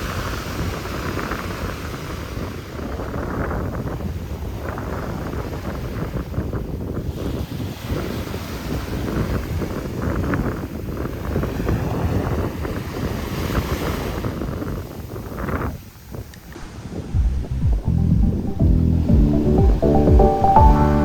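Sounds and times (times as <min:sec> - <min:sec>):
wind buffeting microphone: 0:00.0 - 0:20.2
sea: 0:00.0 - 0:21.0.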